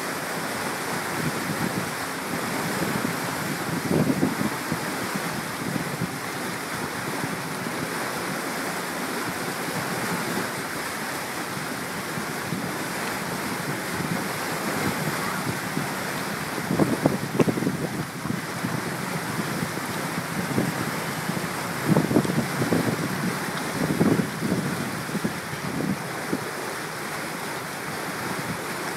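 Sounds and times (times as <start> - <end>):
water churning: 0.0 - 28.9
wind buffeting microphone: 1.0 - 28.9.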